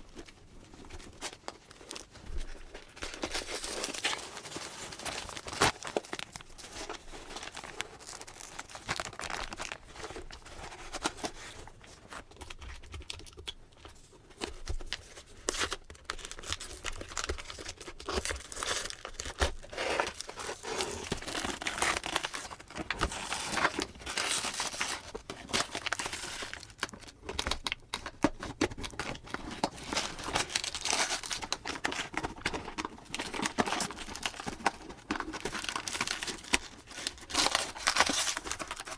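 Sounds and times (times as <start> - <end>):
packaging crinkling and rustling: 0.0 - 38.9
packaging tearing: 2.8 - 11.6, 15.4 - 38.9.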